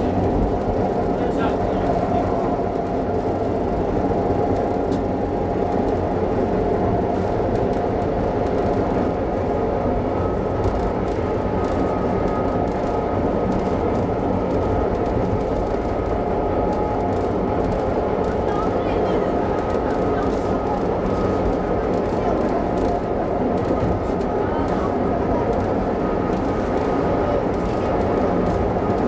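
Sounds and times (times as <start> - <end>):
rumble of train wheels on track: 0.0 - 29.0.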